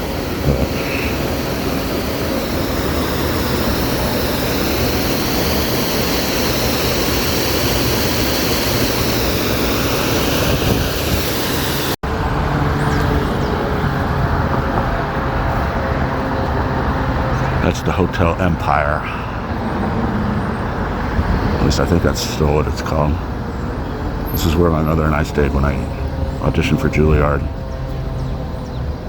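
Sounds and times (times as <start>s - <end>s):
street traffic roar: 0.0s - 29.0s.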